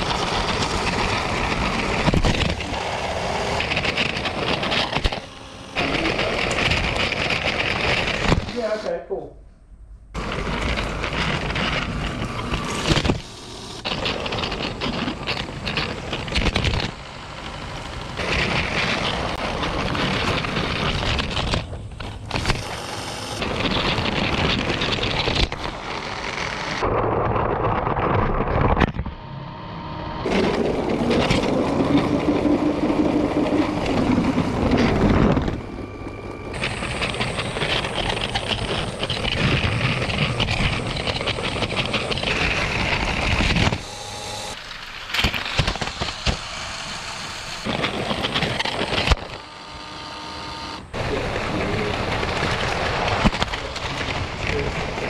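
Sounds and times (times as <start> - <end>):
toy train rumbling and rattling: 0.0 - 8.9, 10.2 - 28.9, 30.2 - 55.0
low hum: 0.0 - 55.0.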